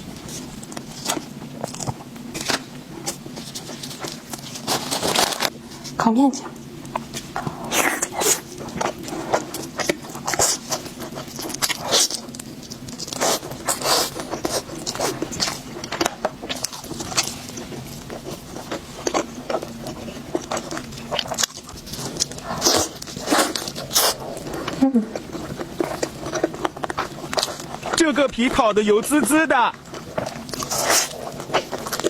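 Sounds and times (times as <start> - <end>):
chewing and biting food: 0.0 - 5.6, 6.6 - 32.0.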